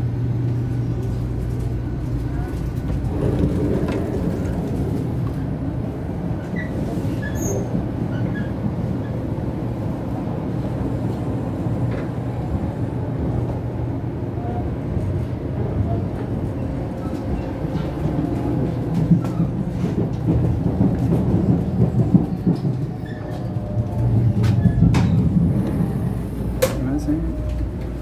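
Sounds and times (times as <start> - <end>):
train running low rumble: 0.0 - 28.0.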